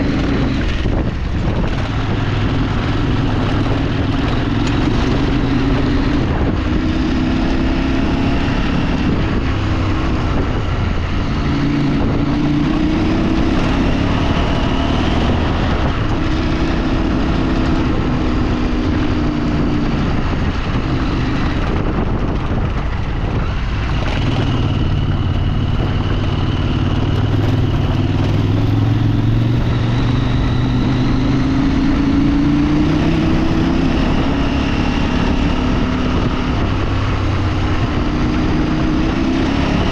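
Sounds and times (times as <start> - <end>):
vehicle engine revving: 0.0 - 39.9
wind and road noise: 0.0 - 39.9.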